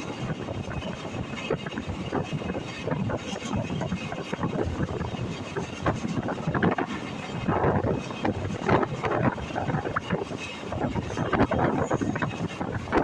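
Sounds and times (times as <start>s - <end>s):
coach knocking and rattling on track: 0.0s - 13.0s
train rumbling: 0.0s - 13.0s
wind buffeting microphone: 0.0s - 13.0s.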